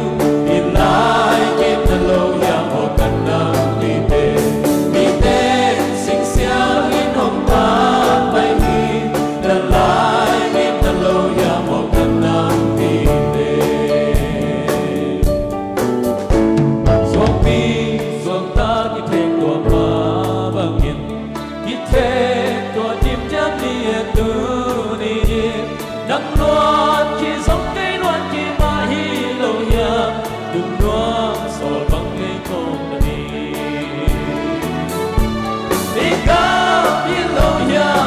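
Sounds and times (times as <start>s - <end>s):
men singing together: 0.0s - 15.6s, 17.0s - 38.0s
drum kit beat: 0.0s - 38.0s
live band playing: 0.0s - 38.0s.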